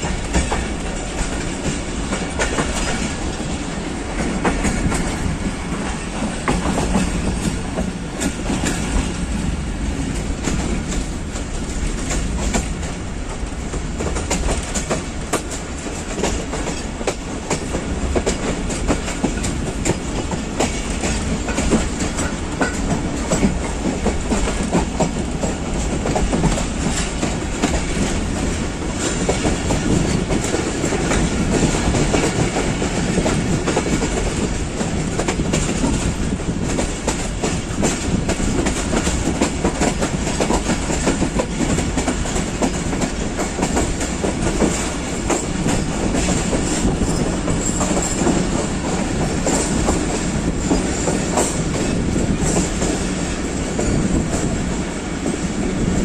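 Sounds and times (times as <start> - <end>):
train rumble: 0.0 - 56.0
wheels clacking over rail joints: 0.0 - 56.0.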